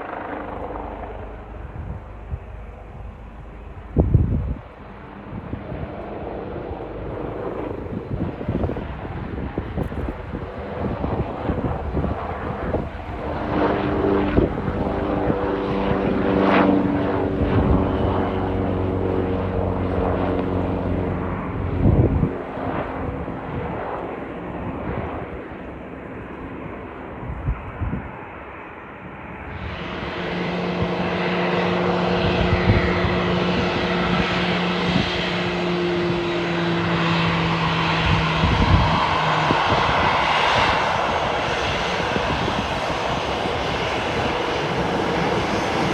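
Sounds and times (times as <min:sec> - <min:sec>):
helicopter turbine and rotor drone: 0:00.0 - 0:45.9
jet engines whining: 0:00.0 - 0:45.9.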